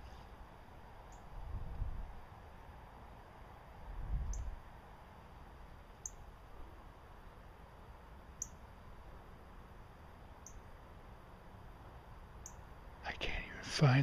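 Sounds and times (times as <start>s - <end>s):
faint low background noise: 0.0s - 14.0s.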